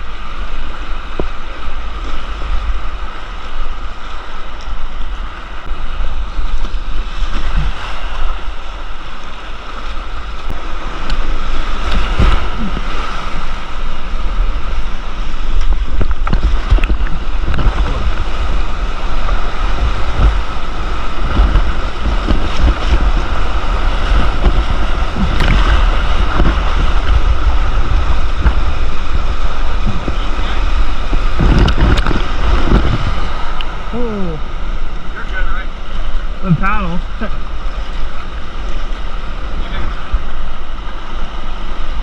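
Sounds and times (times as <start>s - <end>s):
whitewater rushing: 0.0s - 42.0s
wind buffeting microphone: 0.0s - 42.0s.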